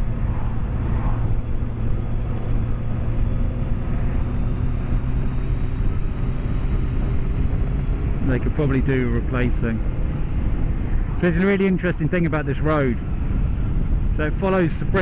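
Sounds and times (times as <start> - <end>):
wind rush: 0.0 - 8.8, 9.7 - 15.0
motorcycle engine cruising: 0.0 - 15.0.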